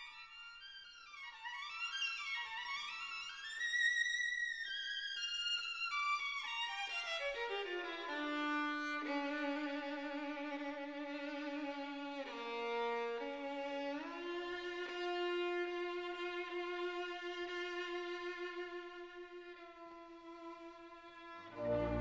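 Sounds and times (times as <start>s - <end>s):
violin melody: 0.0s - 22.0s.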